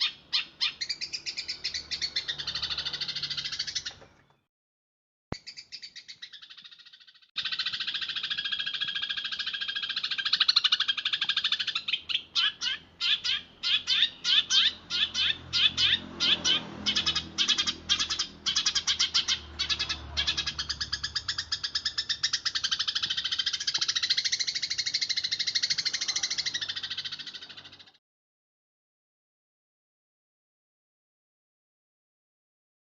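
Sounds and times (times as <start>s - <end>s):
sparrow chattering: 0.0s - 4.0s, 5.3s - 28.0s.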